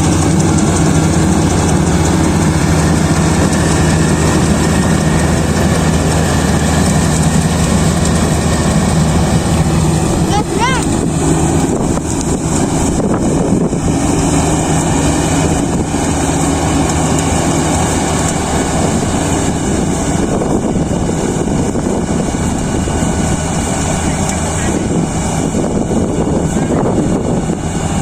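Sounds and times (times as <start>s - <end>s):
combine harvester engine drone: 0.0s - 28.0s.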